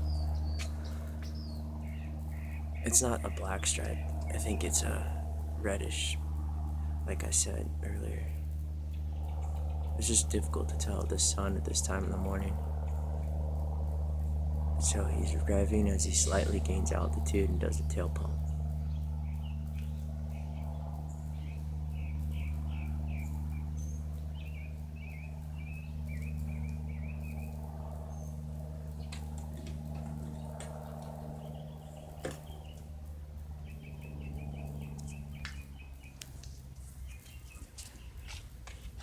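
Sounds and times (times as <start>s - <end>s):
propeller plane droning overhead: 0.0s - 39.0s
small birds chirping: 0.0s - 39.0s.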